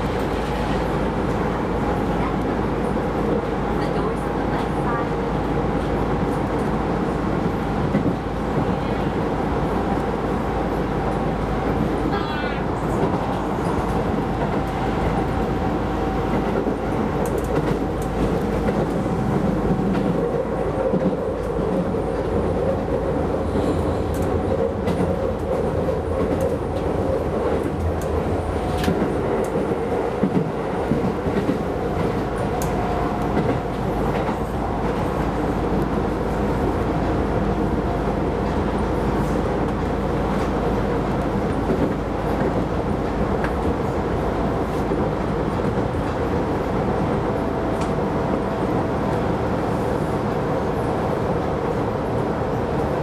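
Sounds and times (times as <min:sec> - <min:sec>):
train rumbling on track: 0:00.0 - 0:53.0.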